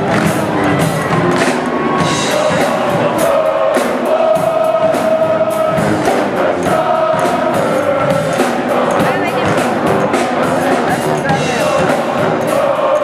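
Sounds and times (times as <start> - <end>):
brass band playing: 0.0 - 13.0
drums: 0.0 - 13.0.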